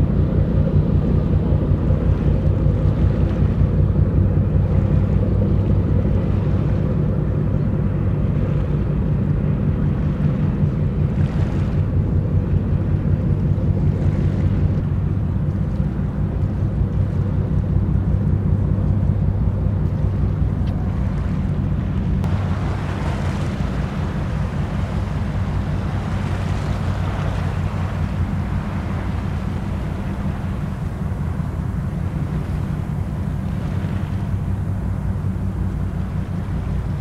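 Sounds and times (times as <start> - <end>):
ship engines droning: 0.0 - 37.0.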